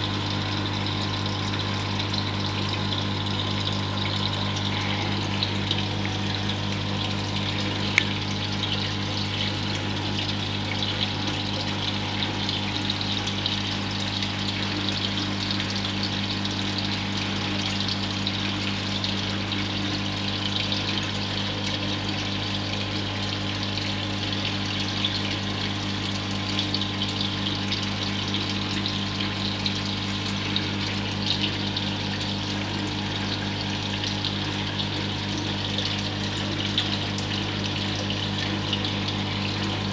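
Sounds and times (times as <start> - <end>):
aquarium pump humming: 0.0 - 39.9
trickling water: 0.0 - 39.9.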